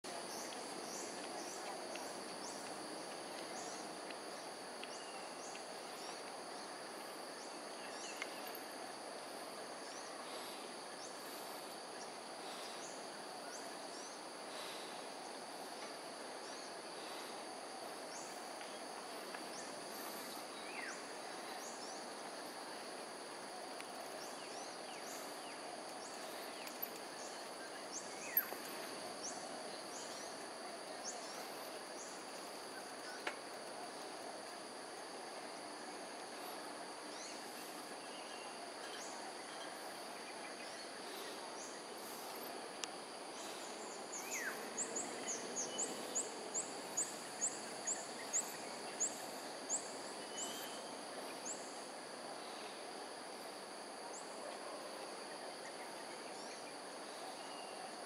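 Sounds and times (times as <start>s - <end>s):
high insect drone: 0.1s - 58.0s.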